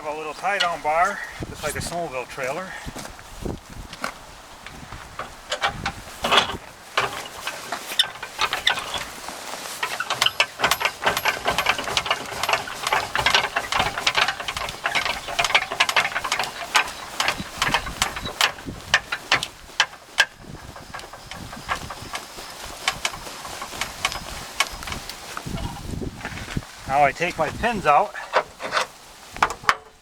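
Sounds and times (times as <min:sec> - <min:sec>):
rapid irregular clicks and rattles: 0:05.2 - 0:29.8.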